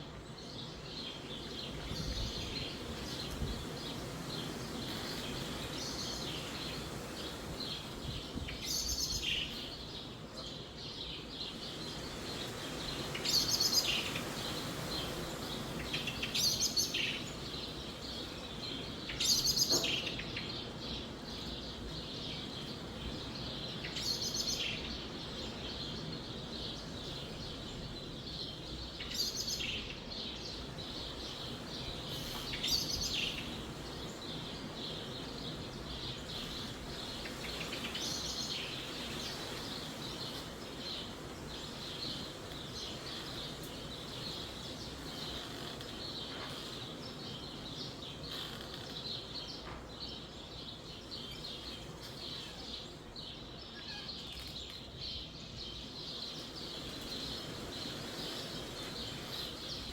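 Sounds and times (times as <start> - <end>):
wind through trees: 0.0 - 59.9
small birds chirping: 0.1 - 59.9.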